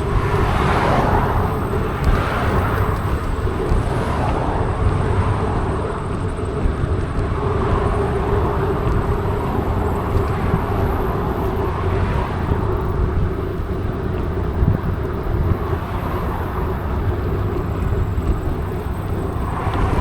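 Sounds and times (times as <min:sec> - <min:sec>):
bike tyre noise: 0:00.0 - 0:20.0
wind rumble on microphone: 0:00.0 - 0:20.0.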